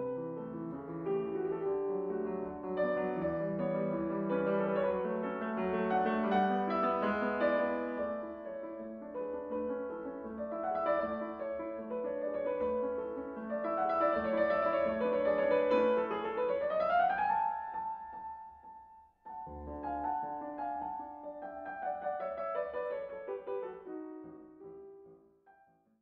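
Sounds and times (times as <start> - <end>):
piano-like keyboard music: 0.0 - 25.7.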